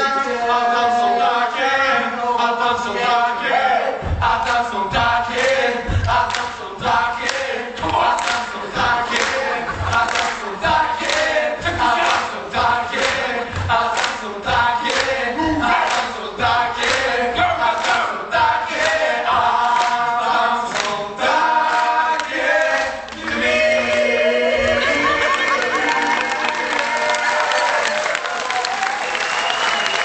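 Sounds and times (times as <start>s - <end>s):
group singing gospel song: 0.0s - 28.1s
rhythmic clapping: 1.9s - 30.0s.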